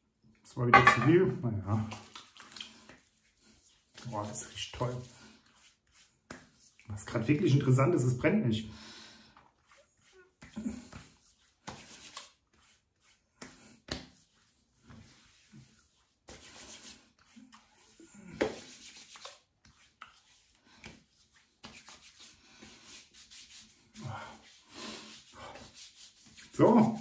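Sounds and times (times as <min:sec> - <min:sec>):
hands rubbing over face: 0:01.9 - 0:06.9, 0:09.4 - 0:27.0.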